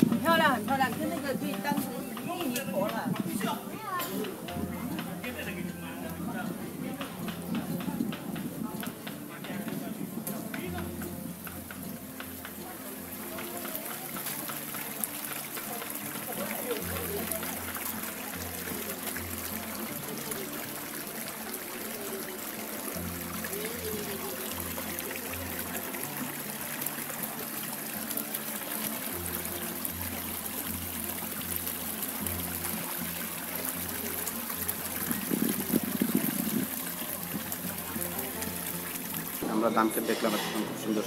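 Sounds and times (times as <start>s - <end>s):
faint background music: 0.0s - 41.0s
water trickling: 0.0s - 41.0s.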